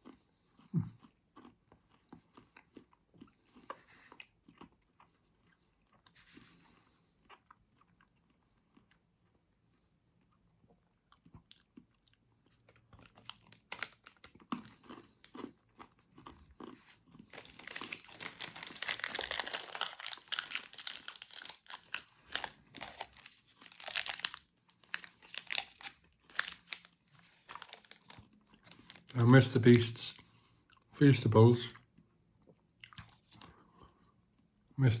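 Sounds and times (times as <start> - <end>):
chewing and crunching chocolate bar: 0.0 - 35.0.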